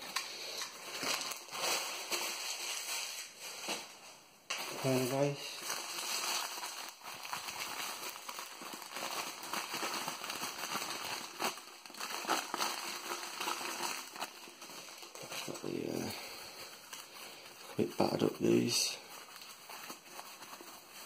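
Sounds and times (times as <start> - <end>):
newspaper crinkling and crackling: 0.0 - 21.0.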